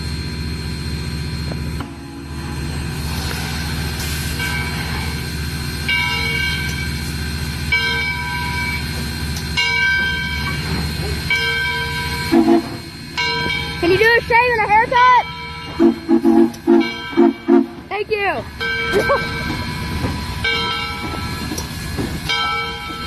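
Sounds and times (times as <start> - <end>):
locomotive low running rumble: 0.0 - 23.0
locomotive bell ringing: 4.2 - 23.0.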